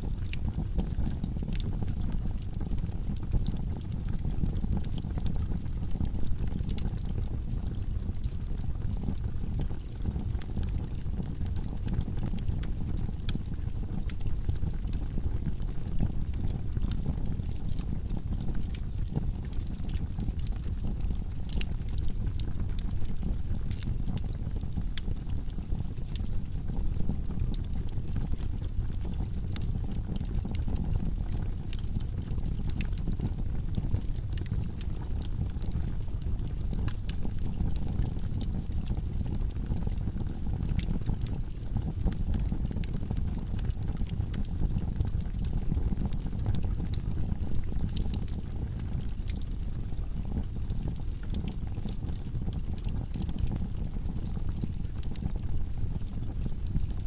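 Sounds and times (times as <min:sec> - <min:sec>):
fire rumbling: 0:00.0 - 0:57.0
wood crackling and popping: 0:00.0 - 0:57.0.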